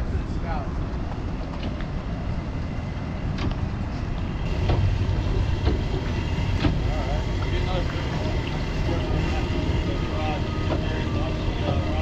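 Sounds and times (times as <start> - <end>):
outboard engines rumbling: 0.0 - 12.0.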